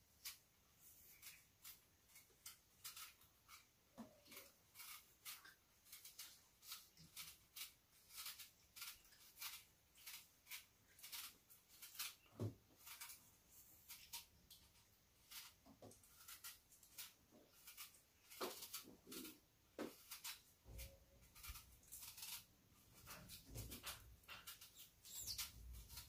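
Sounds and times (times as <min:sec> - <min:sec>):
knife paring fruit skin: 0:00.1 - 0:26.0.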